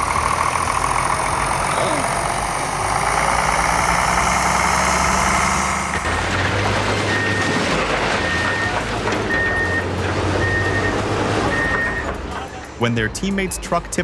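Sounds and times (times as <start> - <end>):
diesel engine running: 0.0 - 13.1.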